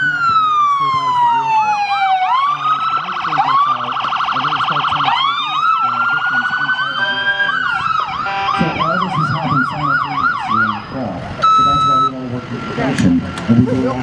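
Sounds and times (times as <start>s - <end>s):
warbling yelp siren: 0.0s - 12.3s
rapid rising and falling siren: 0.0s - 14.0s
wailing siren: 0.0s - 14.0s.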